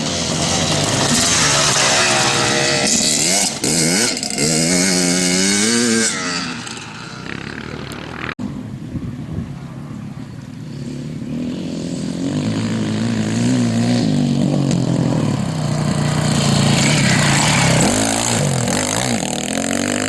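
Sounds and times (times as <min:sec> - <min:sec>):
motorcycle engine revving: 0:00.0 - 0:08.4, 0:10.6 - 0:20.0.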